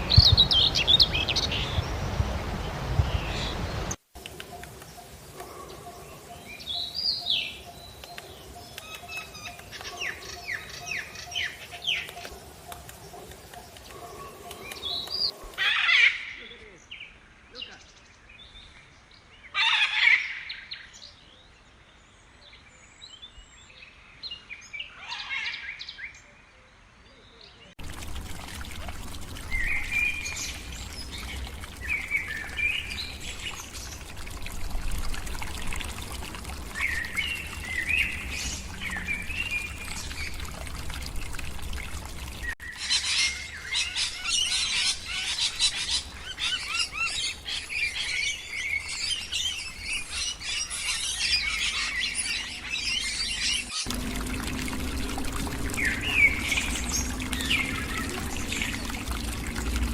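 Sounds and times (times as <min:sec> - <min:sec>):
birds chirping: 0:00.0 - 0:19.3, 0:27.2 - 0:59.9.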